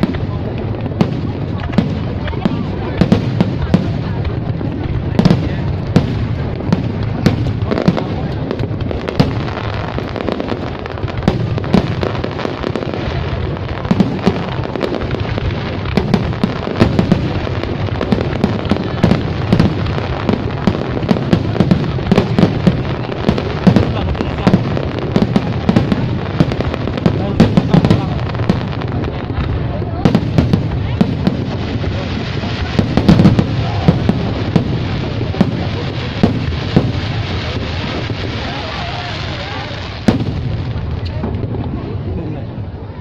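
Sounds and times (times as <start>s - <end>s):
fireworks sharp bangs: 0.0s - 42.9s
rumble of fireworks booms: 0.0s - 43.0s.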